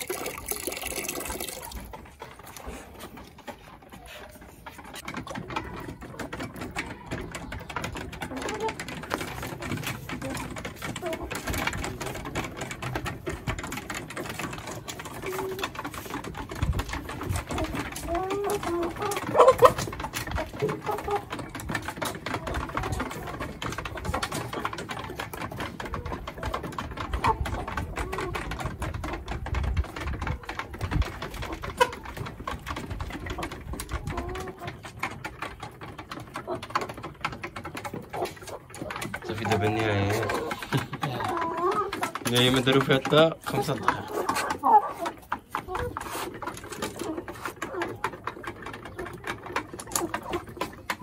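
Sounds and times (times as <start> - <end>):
chickens clucking: 0.0 - 51.0
hens pecking at feed: 0.0 - 51.0.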